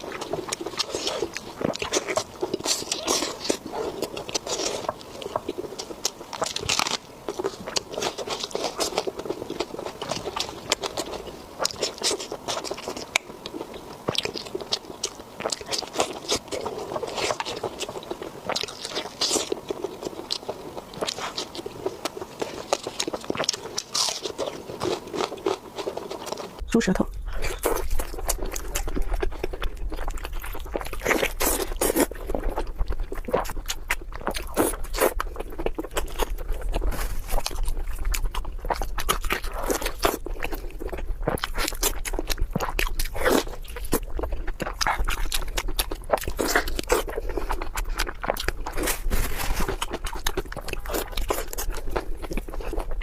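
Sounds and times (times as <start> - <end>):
close chewing and biting: 0.0 - 53.0
steady low hum: 0.0 - 53.0.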